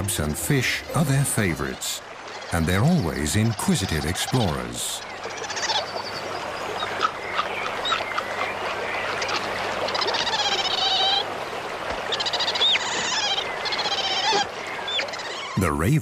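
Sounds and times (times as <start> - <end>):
ravens calling: 0.0 - 16.0.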